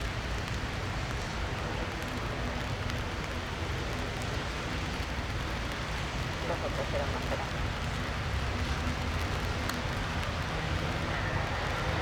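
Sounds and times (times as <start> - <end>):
steady rain falling: 0.0 - 12.0
raindrop ticks: 0.1 - 11.3.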